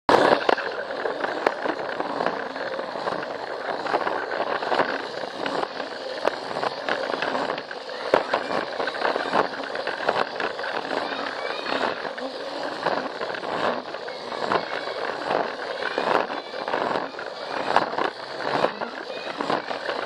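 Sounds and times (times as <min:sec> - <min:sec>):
toy train motor whirring: 0:00.1 - 0:20.0
wheels clacking over track joints: 0:00.1 - 0:20.0.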